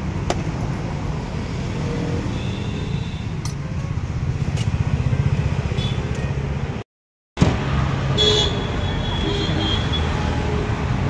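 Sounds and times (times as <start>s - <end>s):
road traffic rumble: 0.0s - 6.8s, 7.4s - 11.0s.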